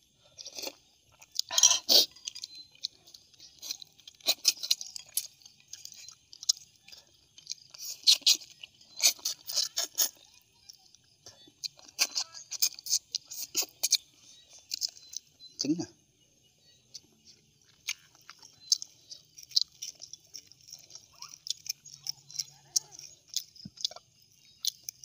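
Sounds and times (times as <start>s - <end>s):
wet chewing smacks and clicks: 0.2s - 15.8s, 16.8s - 25.0s.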